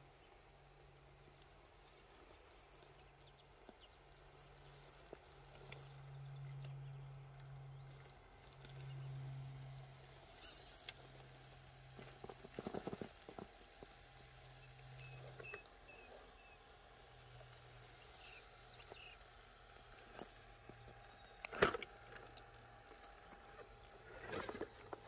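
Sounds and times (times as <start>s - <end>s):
clicks and scrabbling: 1.2s - 25.0s.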